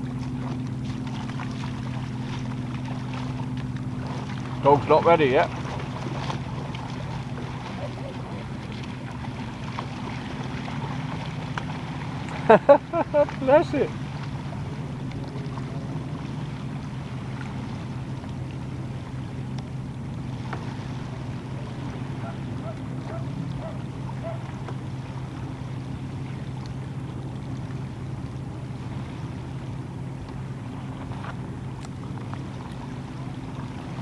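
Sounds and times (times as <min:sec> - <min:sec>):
distant engine drone: 0:00.0 - 0:34.0
faint waterside ambience: 0:00.0 - 0:34.0.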